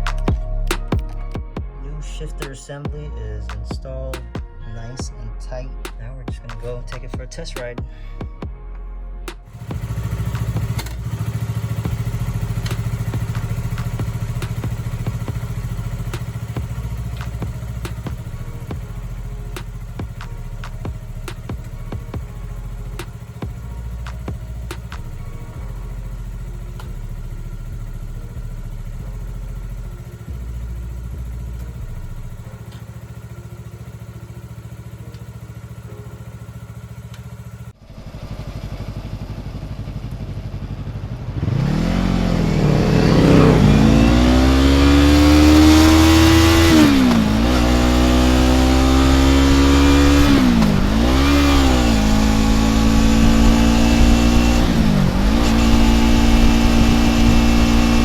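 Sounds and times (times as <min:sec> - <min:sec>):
motorcycle engine accelerating: 0:00.0 - 0:05.3, 0:05.9 - 0:08.6, 0:09.3 - 0:58.0.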